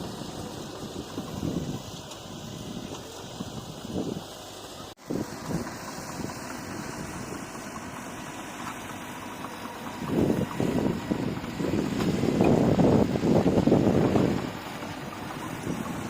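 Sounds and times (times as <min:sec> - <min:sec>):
wind buffeting microphone: 0:00.0 - 0:04.4, 0:05.0 - 0:07.6, 0:09.7 - 0:16.0
bulldozer diesel engine: 0:00.0 - 0:16.0.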